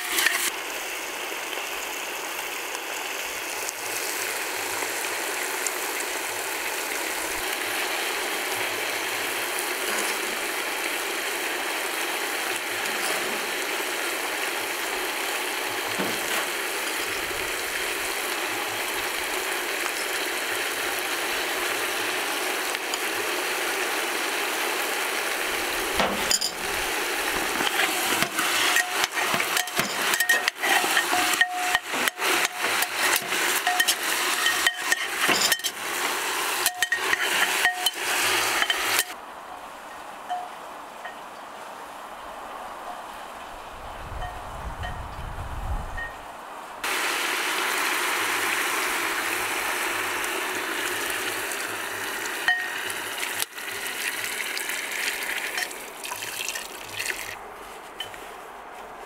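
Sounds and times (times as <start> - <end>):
food sizzling in hot oil: 0.0 - 39.2, 46.8 - 57.4.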